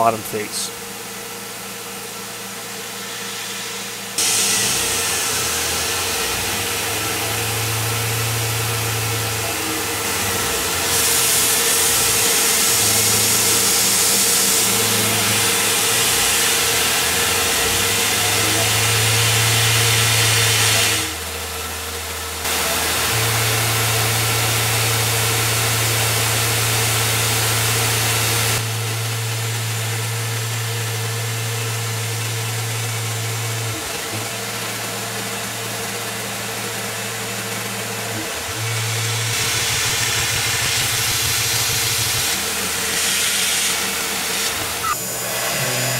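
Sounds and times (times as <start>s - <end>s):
milling machine cutting metal: 2.9s - 21.3s, 22.5s - 45.9s.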